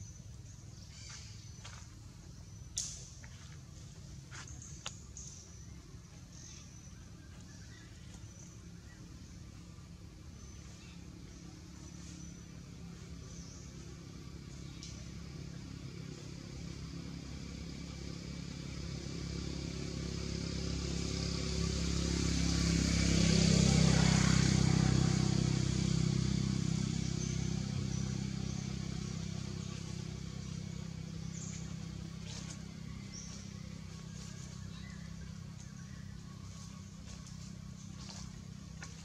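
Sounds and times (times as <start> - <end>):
road noise: 0.0 - 39.0
vehicle engine passing by: 0.2 - 39.0.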